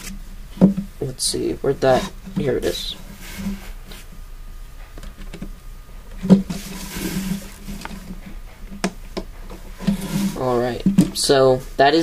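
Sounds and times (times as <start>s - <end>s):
rustling: 0.0s - 11.9s.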